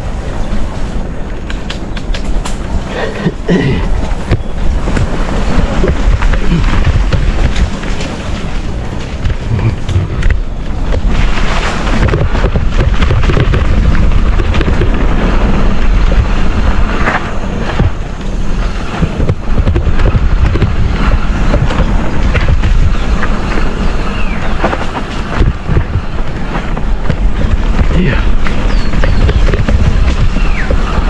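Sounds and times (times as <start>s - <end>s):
mountain bike rattling over trail: 0.0s - 31.0s
wind buffeting microphone: 0.0s - 31.0s.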